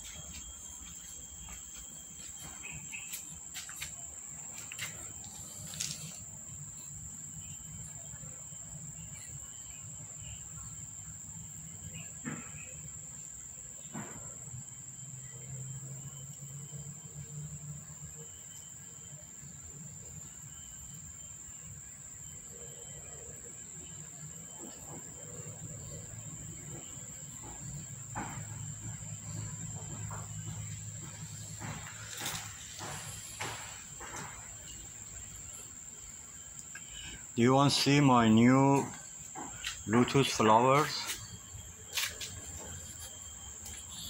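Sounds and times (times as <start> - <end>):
high-pitched insect drone: 0.0 - 44.0.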